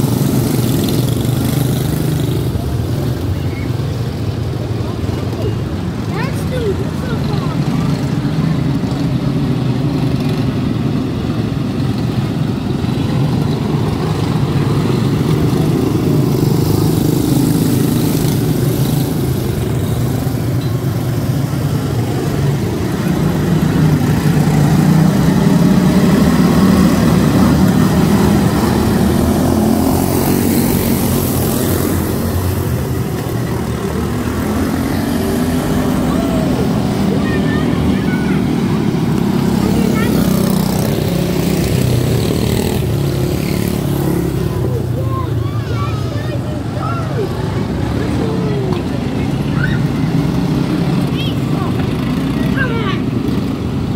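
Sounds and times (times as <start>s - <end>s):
race car engines buzzing: 0.0s - 53.9s.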